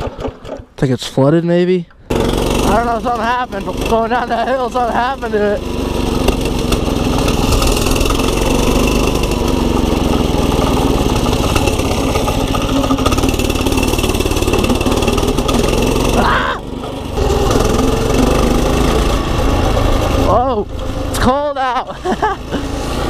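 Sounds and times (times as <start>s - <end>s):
pit bike engine revving: 2.0s - 23.0s.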